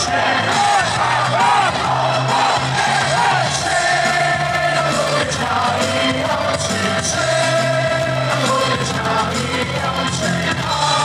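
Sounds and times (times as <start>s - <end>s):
cheer song over loudspeakers: 0.0s - 11.0s.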